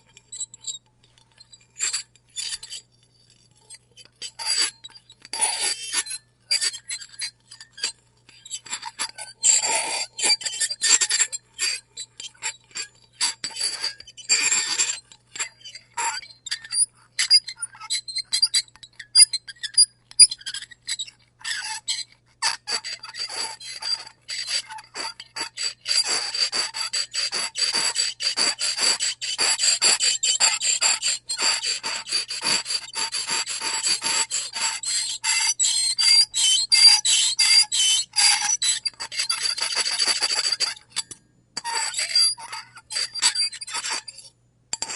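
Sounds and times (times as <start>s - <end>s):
fork scraping a plate: 0.1s - 44.9s
high squeak: 3.6s - 11.7s, 13.2s - 44.9s.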